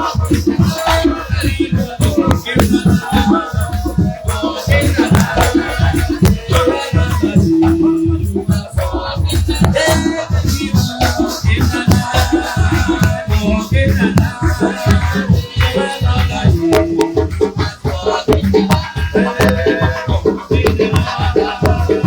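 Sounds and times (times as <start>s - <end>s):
shaker rattling: 0.0s - 22.0s
upbeat music with heavy bass beat: 0.0s - 22.0s.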